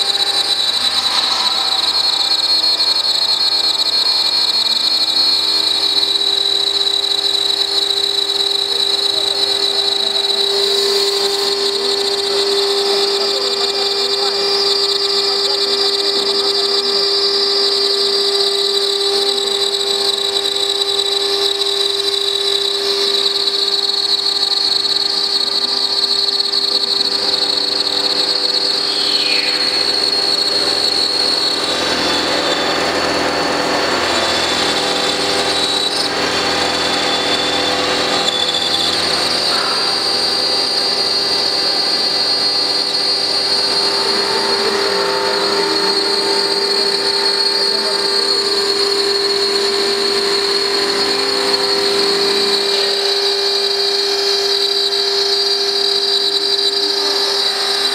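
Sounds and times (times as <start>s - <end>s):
grinding cut on stone: 0.0s - 57.9s
spindle high whine: 0.0s - 57.9s.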